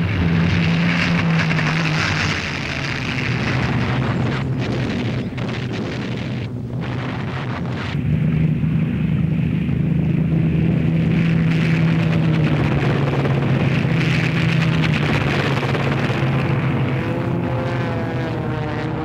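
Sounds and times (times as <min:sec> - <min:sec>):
propeller aircraft engine drone: 0:00.0 - 0:19.0.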